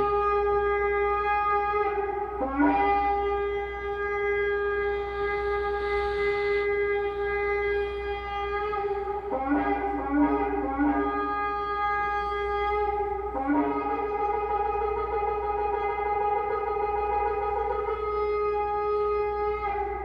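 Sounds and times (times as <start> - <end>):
ram's horn blasts: 0.0 - 20.0.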